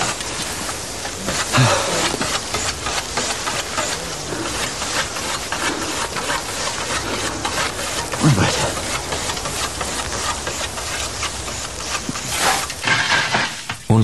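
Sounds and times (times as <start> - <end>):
scythe blades swishing through grass: 0.0 - 13.2.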